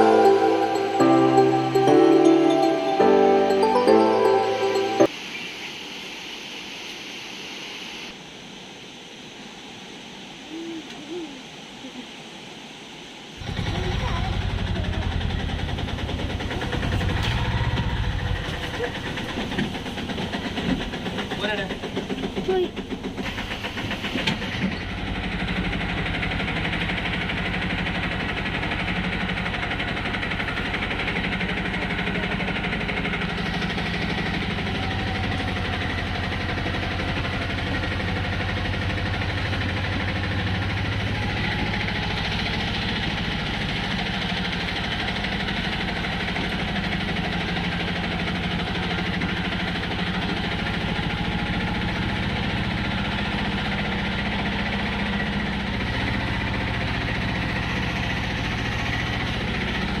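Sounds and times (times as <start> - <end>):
train running drone: 0.0 - 60.0.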